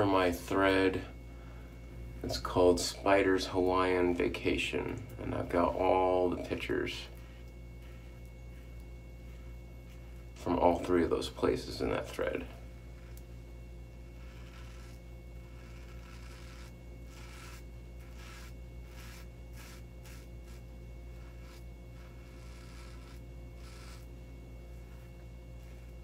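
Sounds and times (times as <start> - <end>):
steady low hum: 0.0 - 26.0
razor scraping stubble: 5.2 - 26.0.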